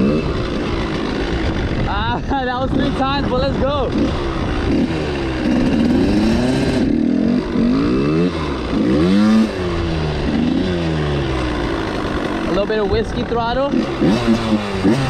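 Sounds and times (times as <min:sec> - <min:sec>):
two-stroke engine revving hard: 0:00.0 - 0:15.0.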